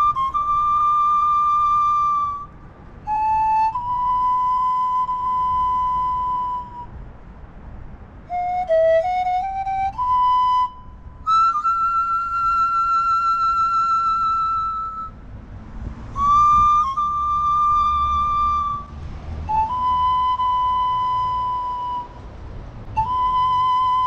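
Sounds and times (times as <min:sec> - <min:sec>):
flute-like wind instrument melody: 0:00.0 - 0:07.1, 0:08.1 - 0:24.0.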